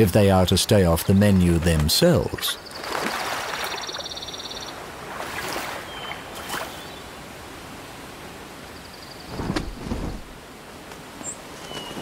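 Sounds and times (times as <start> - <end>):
open-air background hiss: 0.0 - 12.0.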